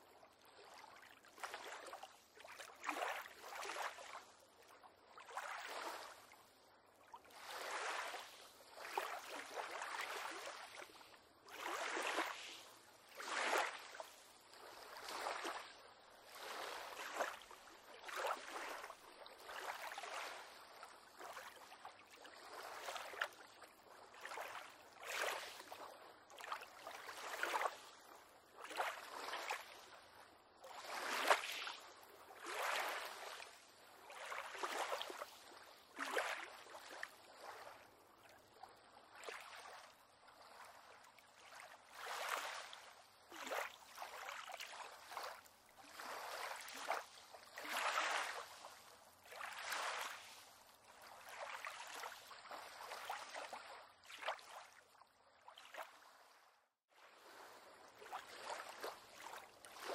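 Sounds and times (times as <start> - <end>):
small waves splashing against pier: 0.4 - 6.4, 7.0 - 56.4, 57.0 - 59.9.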